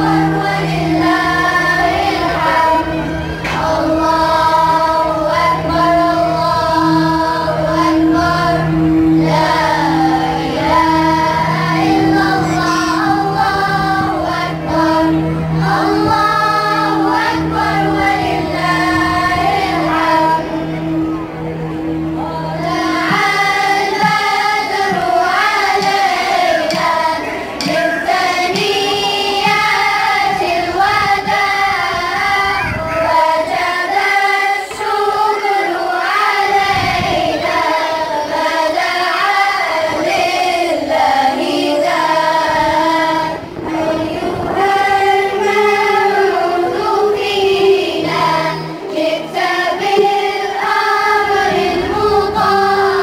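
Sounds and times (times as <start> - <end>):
children's choir singing: 0.0 - 53.0
electronic keyboard accompaniment: 0.0 - 53.0.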